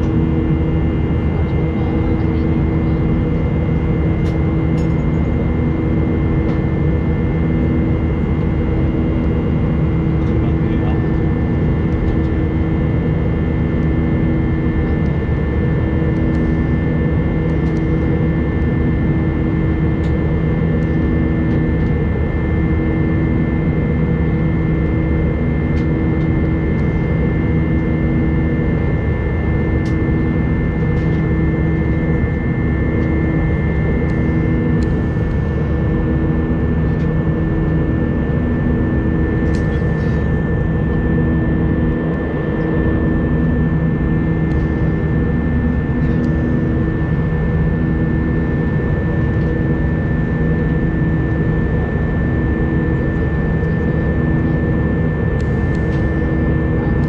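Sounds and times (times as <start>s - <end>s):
high engine whine: 0.0s - 57.0s
jet engines droning in cabin: 0.0s - 57.0s.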